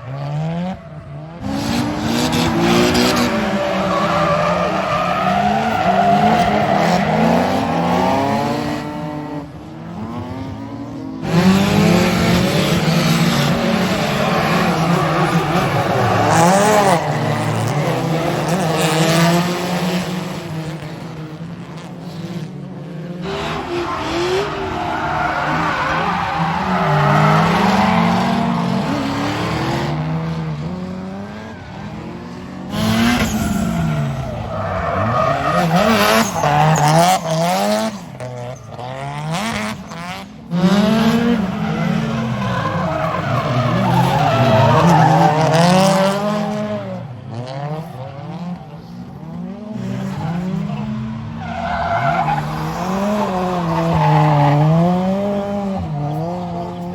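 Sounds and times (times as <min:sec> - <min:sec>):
car engines revving: 0:00.0 - 0:56.9
tyres squealing and skidding: 0:00.4 - 0:09.0, 0:11.3 - 0:19.5, 0:23.2 - 0:46.8, 0:49.8 - 0:56.9.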